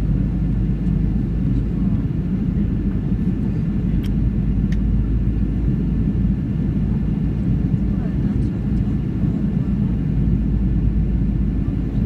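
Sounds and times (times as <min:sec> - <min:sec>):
airliner engines rumbling: 0:00.0 - 0:12.0.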